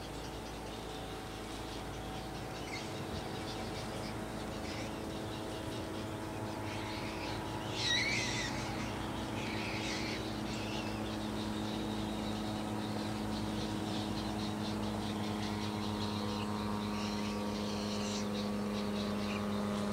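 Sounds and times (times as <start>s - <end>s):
high wavering bird calls: 0.0s - 19.9s
low mechanical drone: 0.0s - 19.9s.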